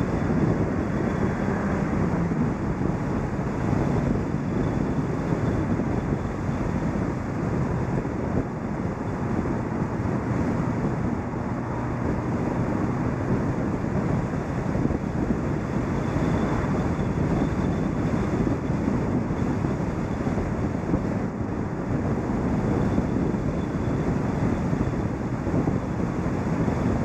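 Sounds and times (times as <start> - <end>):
tyre and road noise: 0.0 - 27.0
wind buffeting microphone: 0.0 - 27.0.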